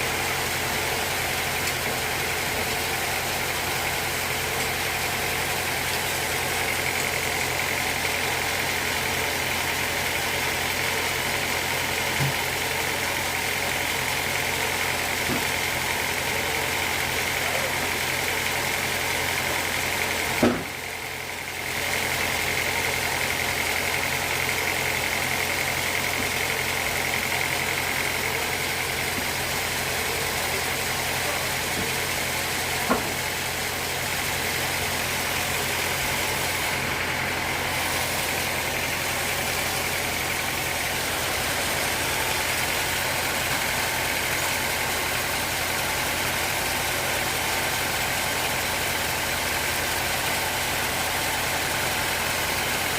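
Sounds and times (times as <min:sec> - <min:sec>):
sawmill machinery droning: 0:00.0 - 0:52.9.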